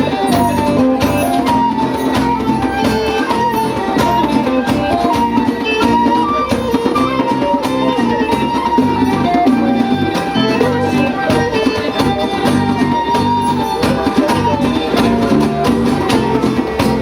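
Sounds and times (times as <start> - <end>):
folk band playing: 0.0 - 17.0.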